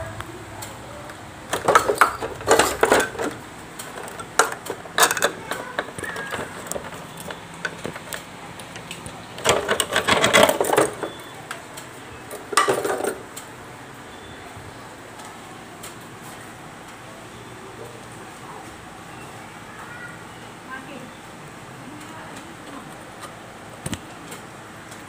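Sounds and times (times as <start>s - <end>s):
air conditioner blower rattling: 0.0s - 20.1s, 21.3s - 25.0s.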